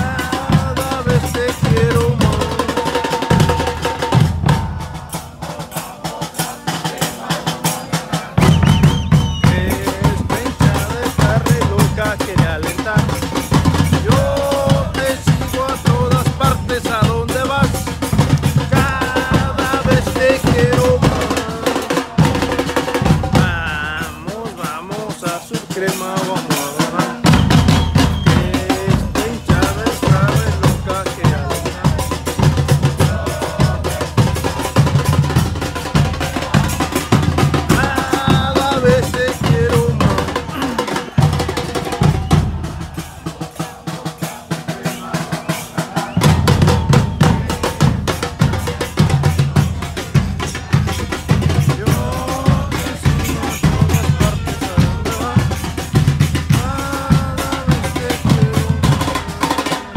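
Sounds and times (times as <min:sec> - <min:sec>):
bass drums: 0:00.0 - 0:59.9
snare drums: 0:00.0 - 0:59.9.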